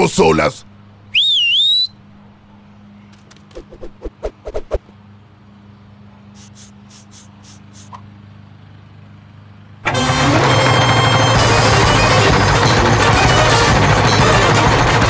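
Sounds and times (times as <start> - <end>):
tractor engine hum: 0.0 - 15.0.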